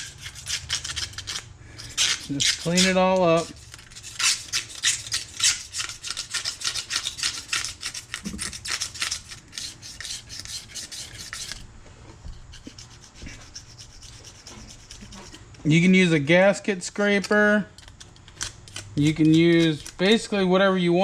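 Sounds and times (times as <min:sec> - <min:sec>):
razor blade scraping metal: 0:00.0 - 0:11.7, 0:12.4 - 0:15.5, 0:17.0 - 0:20.4.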